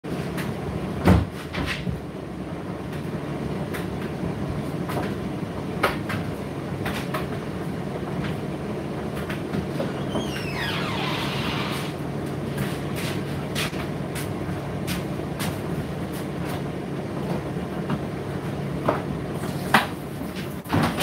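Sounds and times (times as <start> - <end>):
tumble dryer motor and drum hum: 0.1 - 21.0.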